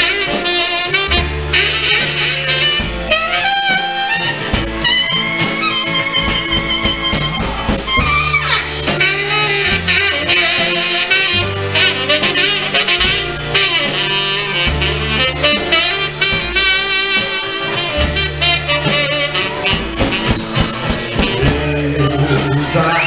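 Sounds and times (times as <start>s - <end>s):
acoustic guitar: 0.0s - 23.0s
drum kit cymbal beat: 0.0s - 23.0s
low bass notes: 0.0s - 23.0s
saxophone melody: 0.0s - 23.0s.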